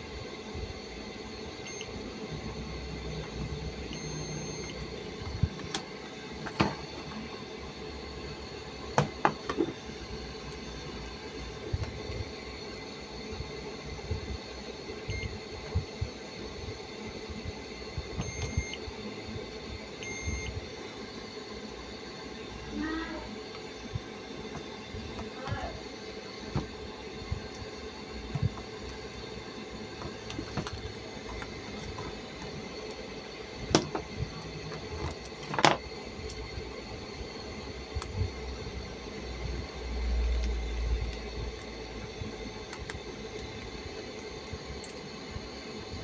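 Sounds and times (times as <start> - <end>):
steady background hum: 0.0 - 46.0.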